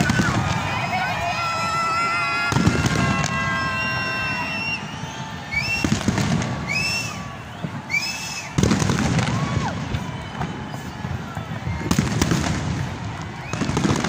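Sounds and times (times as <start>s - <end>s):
firework whistles: 0.0s - 14.0s
fireworks bangs: 0.0s - 14.0s.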